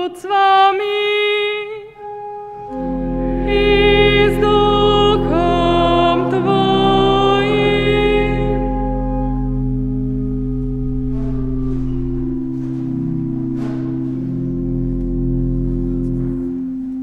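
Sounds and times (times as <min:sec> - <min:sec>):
church organ sustained chords: 0:00.0 - 0:17.0.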